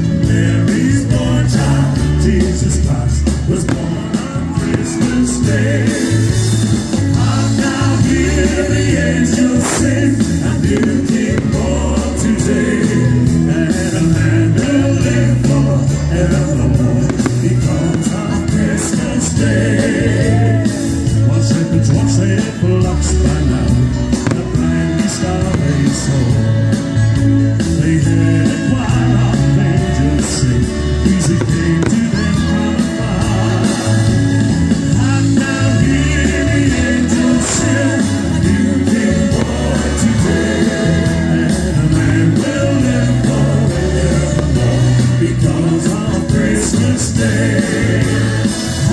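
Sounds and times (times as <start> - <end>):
loud music with heavy bass: 0.0 - 48.9
singing: 0.0 - 48.9.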